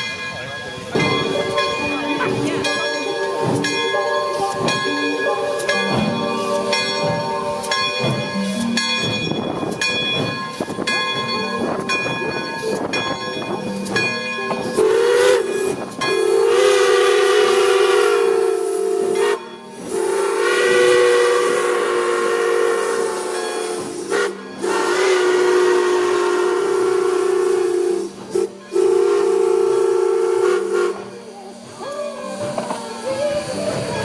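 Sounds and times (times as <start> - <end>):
steam locomotive chime whistle: 0.0 - 34.0.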